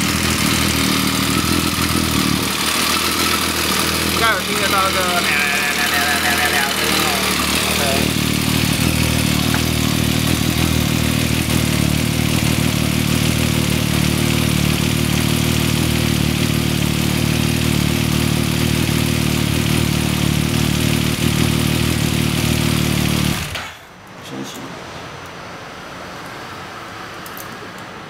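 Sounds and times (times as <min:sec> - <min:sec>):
motorcycle engine idling: 0:00.0 - 0:23.8.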